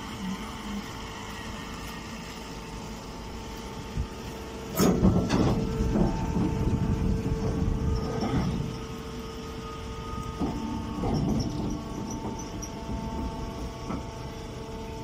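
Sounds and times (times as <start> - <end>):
hydraulic motor and pump humming: 0.0 - 15.0.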